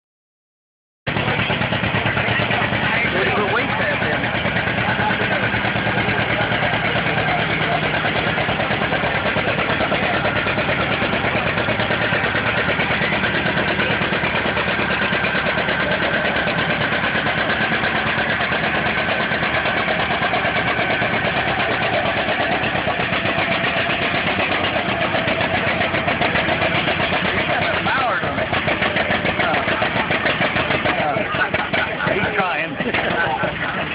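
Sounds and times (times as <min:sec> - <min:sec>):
tractor engine running loud: 0:01.1 - 0:33.9.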